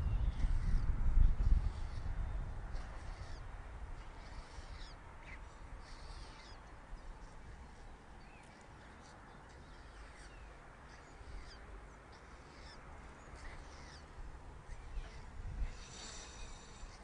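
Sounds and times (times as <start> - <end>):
faint bird chirps: 0.0 - 17.0
low steady rumble: 0.0 - 17.0.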